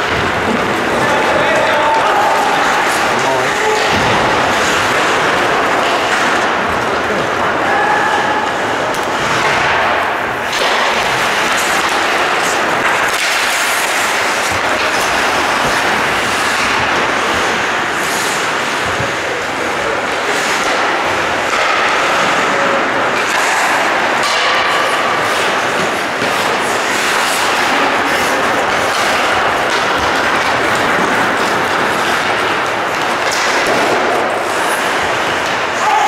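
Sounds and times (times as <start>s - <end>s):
noise of ice rink hall: 0.0s - 36.0s
skates and sticks scraping ice: 0.0s - 36.0s.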